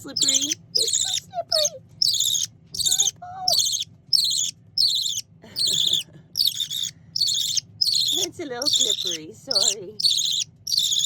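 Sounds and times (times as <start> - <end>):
budgerigar chick begging calls: 0.0 - 11.0.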